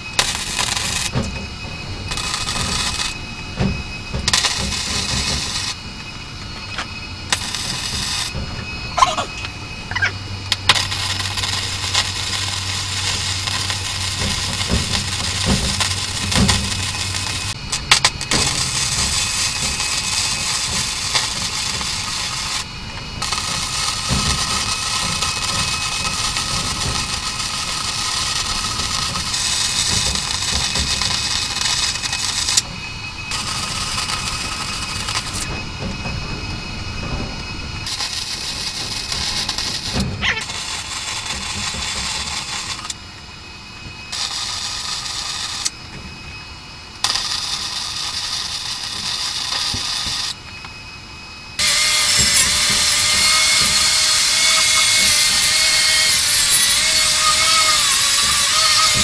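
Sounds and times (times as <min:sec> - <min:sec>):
low hum: 0:00.0 - 0:48.0
welding arc crackling and sizzling: 0:00.0 - 0:59.0.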